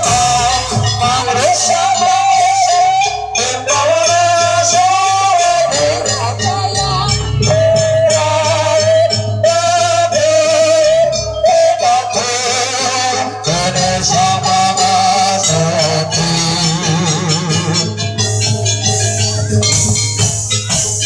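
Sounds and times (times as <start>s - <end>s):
rapid drum and cymbal strikes: 0.0s - 10.0s, 13.8s - 21.0s
wavering high melody: 0.0s - 21.0s.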